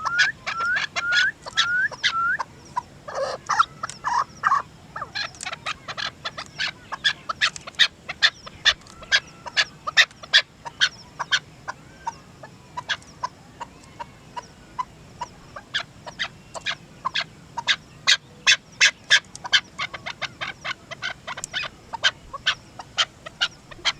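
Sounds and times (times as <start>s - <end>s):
partridge clucking calls: 0.0s - 23.9s.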